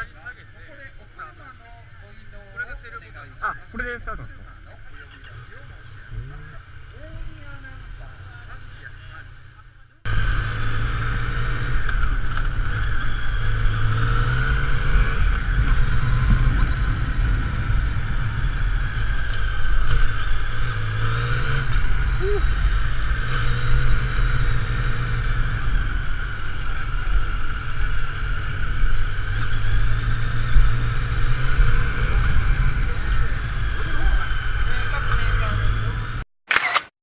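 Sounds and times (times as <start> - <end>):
motorcycle engine revving: 0.0 - 36.2.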